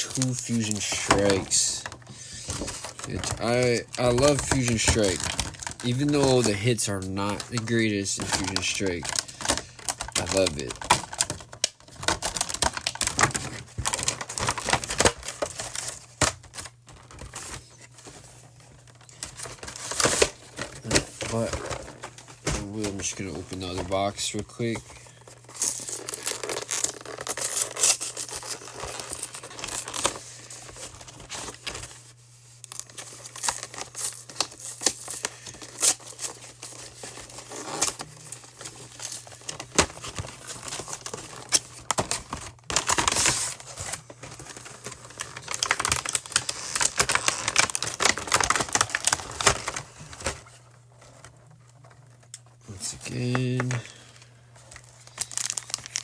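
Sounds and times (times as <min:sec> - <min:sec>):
packaging tearing and crinkling: 0:00.0 - 0:56.0.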